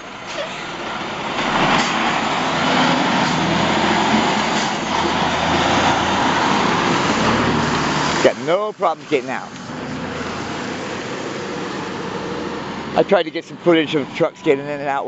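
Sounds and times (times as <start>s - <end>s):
diesel truck engine: 0.0s - 15.0s
road noise: 0.0s - 15.0s.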